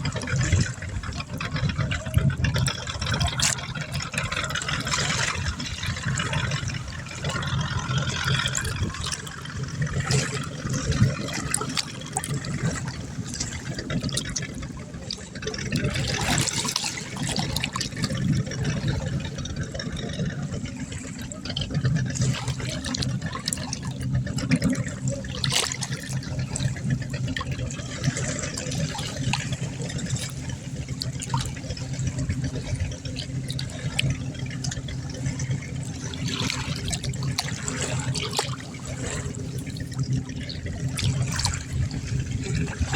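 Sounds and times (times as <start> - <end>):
steady low hum: 0.0 - 42.9
water splashing and trickling: 0.0 - 42.9.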